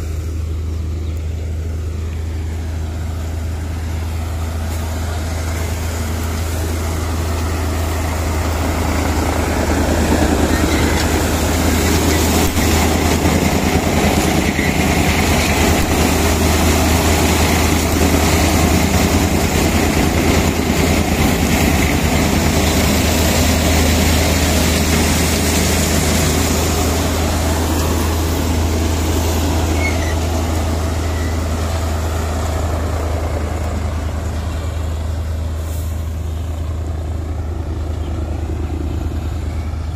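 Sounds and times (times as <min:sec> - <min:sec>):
threshing drum whirring: 0:00.0 - 0:39.9
tractor engine droning under load: 0:00.0 - 0:39.9
sheaves being fed in: 0:04.0 - 0:36.4.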